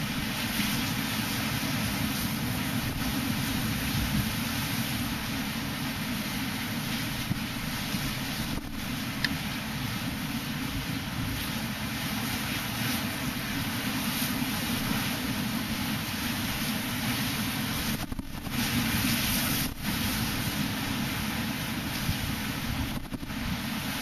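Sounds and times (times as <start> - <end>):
wind buffeting microphone: 0.0 - 12.9, 14.4 - 24.0
sea waves breaking: 0.0 - 24.0.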